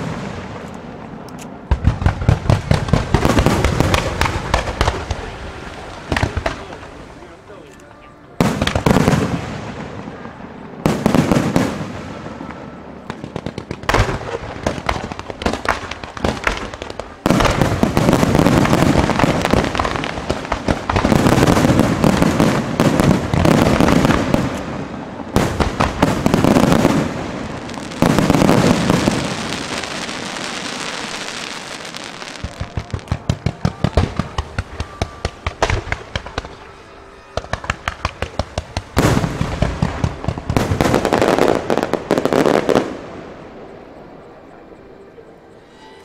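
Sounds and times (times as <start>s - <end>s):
firework bangs: 0.0s - 7.4s, 8.4s - 43.6s
firework crackling: 0.0s - 7.7s, 8.3s - 43.7s.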